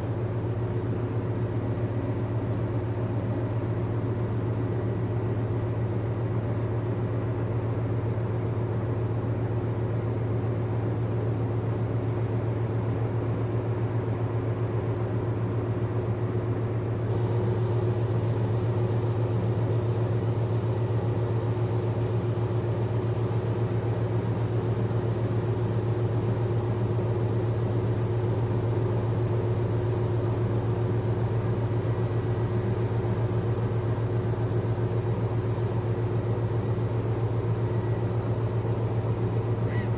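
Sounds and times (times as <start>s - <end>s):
ship diesel machinery drone: 0.0s - 39.9s.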